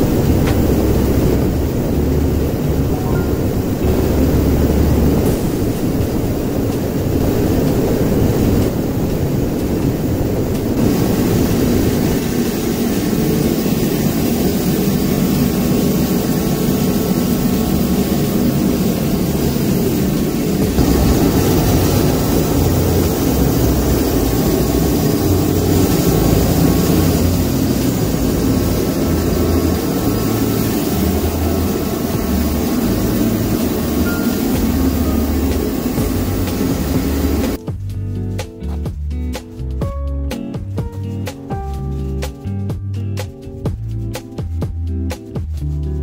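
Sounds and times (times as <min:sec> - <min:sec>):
heater fan and burner roaring: 0:00.0 - 0:46.0.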